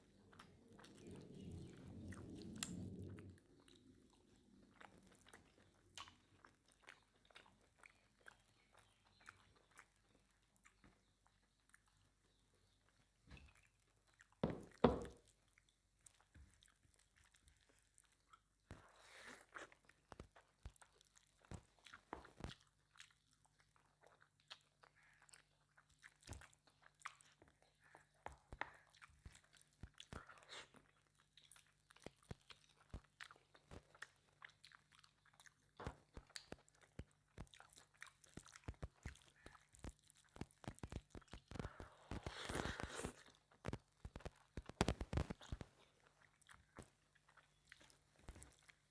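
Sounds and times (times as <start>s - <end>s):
wet chewing clicks and smacks: 0.0s - 48.9s.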